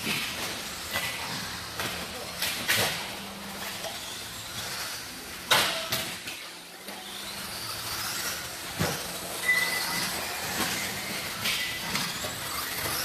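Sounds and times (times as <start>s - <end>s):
rc car motors and tyres: 0.0s - 13.0s.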